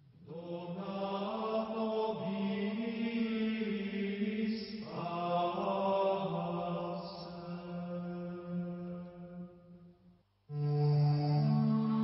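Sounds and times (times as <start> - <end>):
slow sung chant: 0.0 - 12.0.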